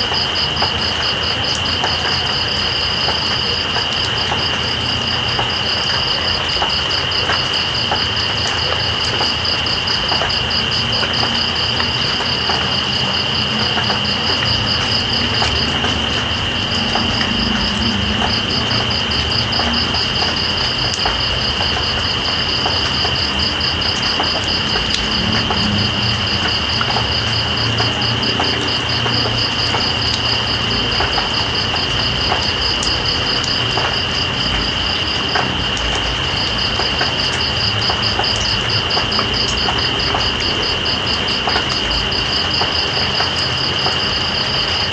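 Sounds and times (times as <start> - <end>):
crickets chirping: 0.0 - 44.9
drips ticking: 0.0 - 44.9
rain hiss: 0.0 - 44.9.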